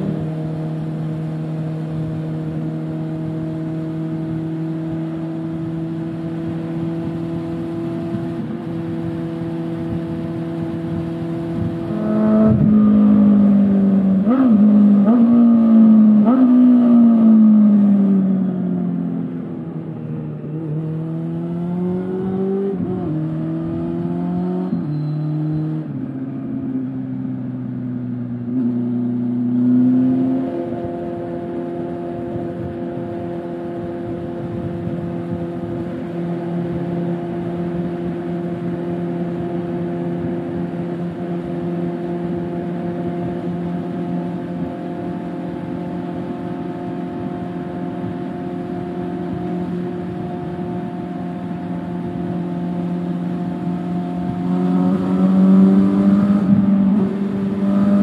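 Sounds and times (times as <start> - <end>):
motorcycle engine revving: 0.0 - 19.0, 20.4 - 26.0, 28.2 - 58.0.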